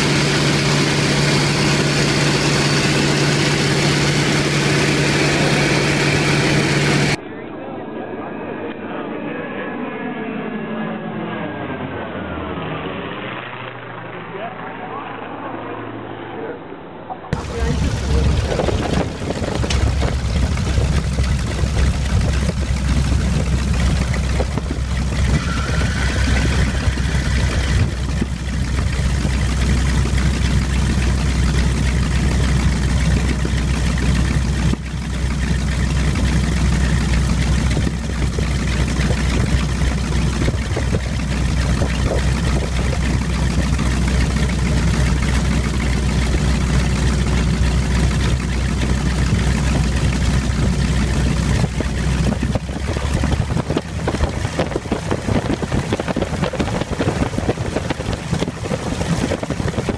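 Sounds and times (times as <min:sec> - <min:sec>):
radial aircraft engine rumbling: 0:00.0 - 0:59.9.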